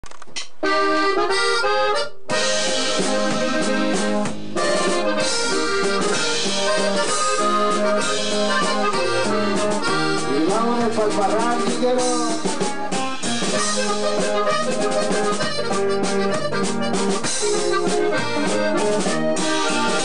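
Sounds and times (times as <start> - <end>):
band playing with bass: 0.4 - 20.0
button accordion melody: 0.6 - 20.0.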